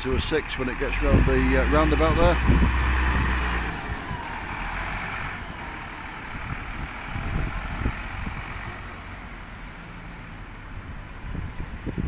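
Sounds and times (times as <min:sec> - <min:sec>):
bus engine: 0:00.0 - 0:12.0
low rumbles: 0:00.0 - 0:12.0
steady traffic hum: 0:00.0 - 0:12.0.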